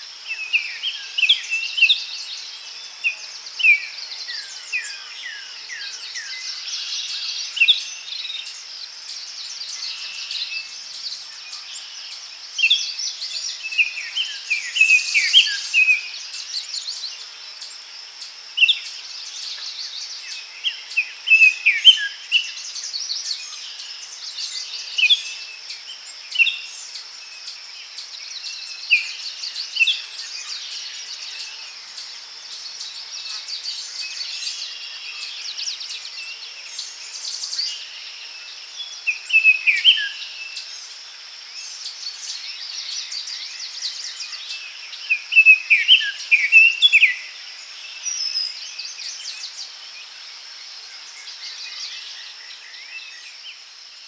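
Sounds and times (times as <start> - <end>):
high insect drone: 0.0 - 54.0
songbirds chirping: 0.0 - 54.0.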